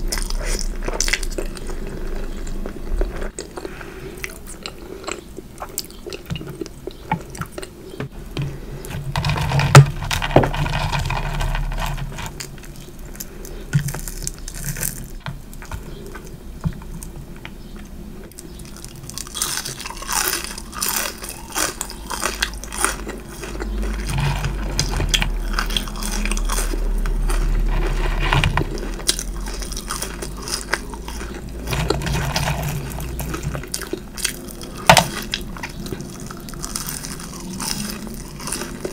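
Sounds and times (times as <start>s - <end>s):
crunchy bites: 0.0s - 38.9s
person chewing food: 0.0s - 38.9s.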